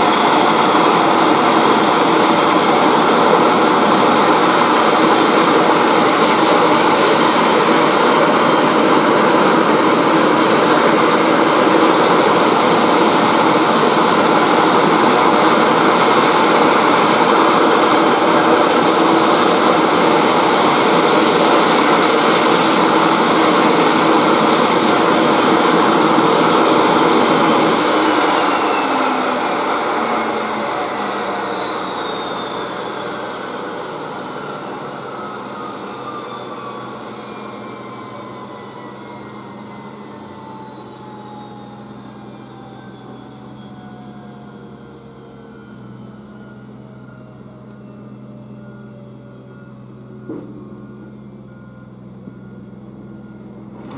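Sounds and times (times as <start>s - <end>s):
high turbine whine: 0.0s - 53.9s
turboprop plane taxiing: 0.0s - 53.9s.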